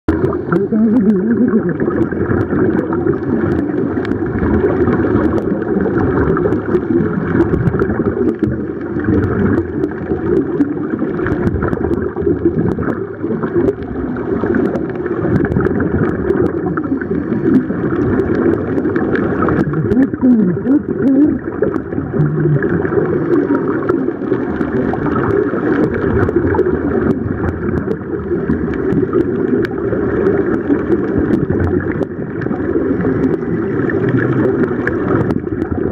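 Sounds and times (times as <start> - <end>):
water and bubbles crackling: 0.0 - 35.9
muffled underwater rumble: 0.1 - 35.9.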